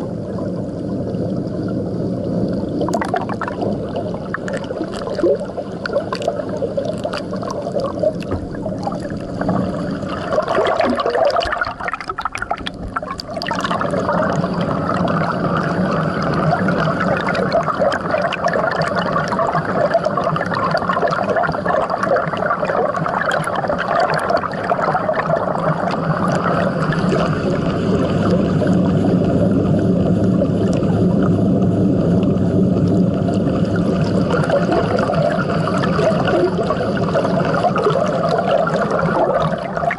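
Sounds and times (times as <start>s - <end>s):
water rushing underwater: 0.0s - 39.9s.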